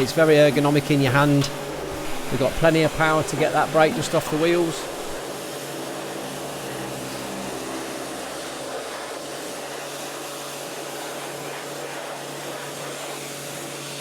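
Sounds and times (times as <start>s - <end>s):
pressure washer motor humming: 0.0s - 14.0s
water jet hissing: 0.0s - 14.0s.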